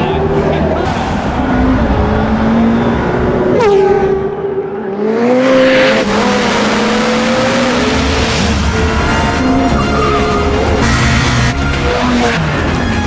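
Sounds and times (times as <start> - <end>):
car engine revving hard: 0.8 - 12.8.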